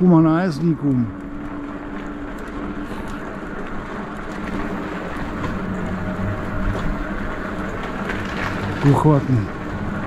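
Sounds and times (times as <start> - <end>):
low engine hum: 0.0 - 10.0
road noise: 0.0 - 10.0.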